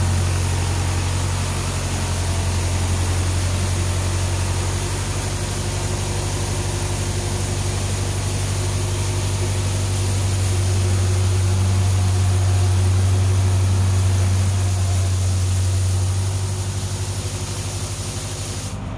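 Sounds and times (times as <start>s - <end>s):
rotary broom sweeping concrete: 0.0s - 18.9s
tractor engine running: 0.0s - 18.9s.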